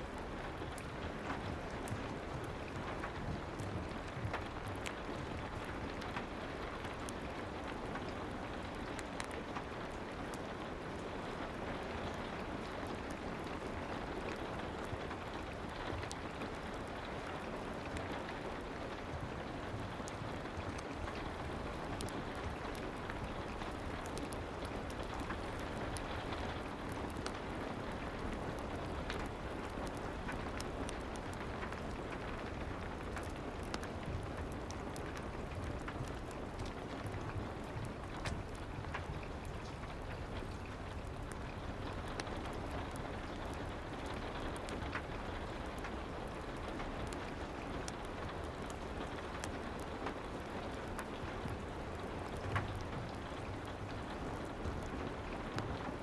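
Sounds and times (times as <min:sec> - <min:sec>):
crackling fireplace: 0:00.0 - 0:56.0
soft rain: 0:00.0 - 0:56.0.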